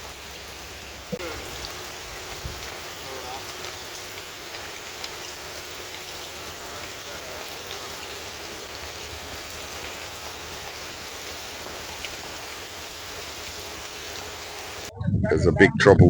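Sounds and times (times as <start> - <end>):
heavy rain falling: 0.0 - 14.9.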